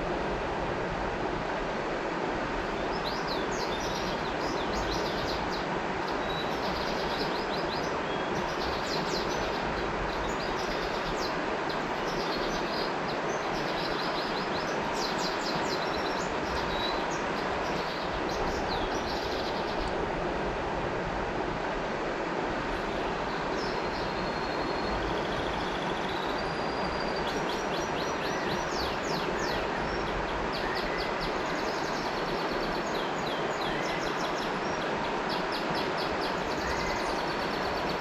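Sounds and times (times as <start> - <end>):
river water rushing: 0.0 - 38.0
songbirds chirping: 2.6 - 20.1, 22.7 - 38.0.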